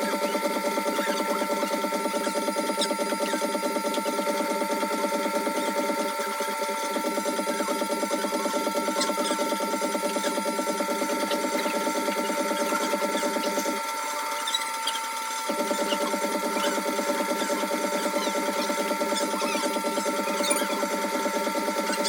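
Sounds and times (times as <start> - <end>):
wet grinder grinding steel blade: 0.0 - 22.0.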